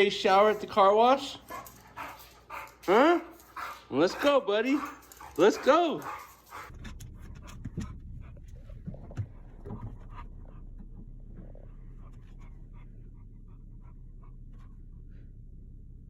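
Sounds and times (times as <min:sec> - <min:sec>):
dog panting: 0:00.0 - 0:15.2
steady low hum: 0:00.0 - 0:16.0.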